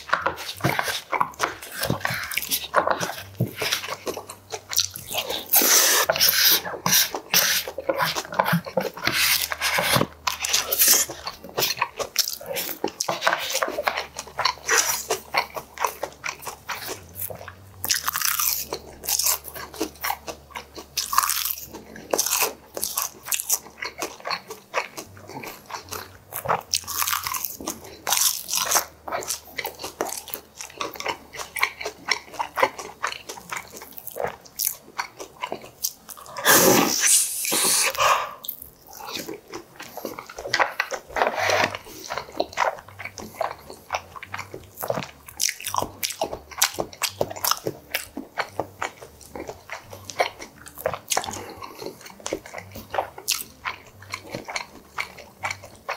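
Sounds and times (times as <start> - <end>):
close chewing with crunches: 0.0 - 55.9.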